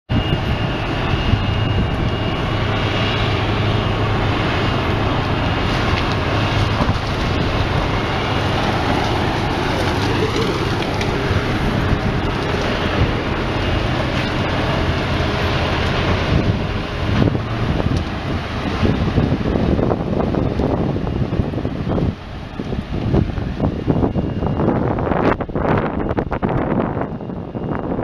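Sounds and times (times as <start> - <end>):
vehicle engine running: 0.1 - 26.8
molten slag pouring rush: 0.2 - 24.2.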